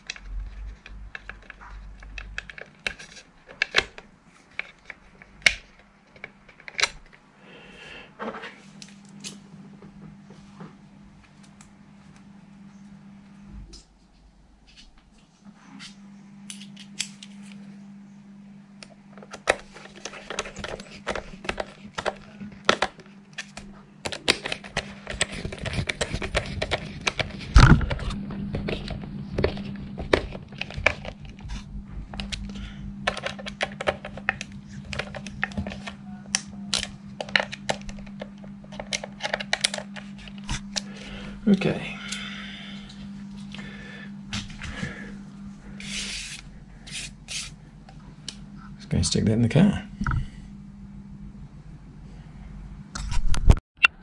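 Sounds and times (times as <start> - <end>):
low hum: 7.3 - 54.0.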